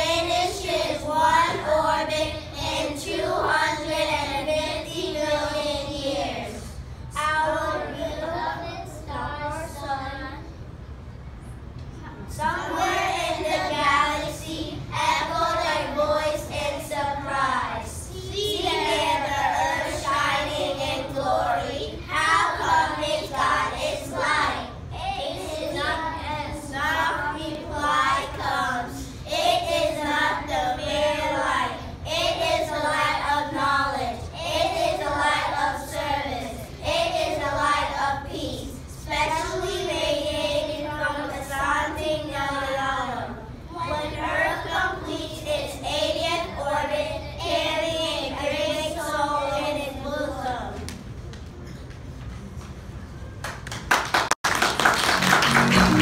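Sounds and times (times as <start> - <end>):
young children singing: 0.0 - 10.5, 12.1 - 50.9, 54.8 - 56.0.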